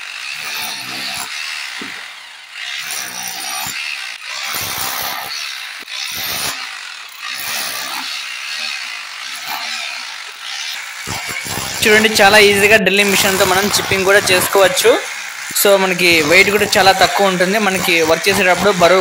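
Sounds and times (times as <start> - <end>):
rotary hammer chipping concrete: 0.0 - 19.0.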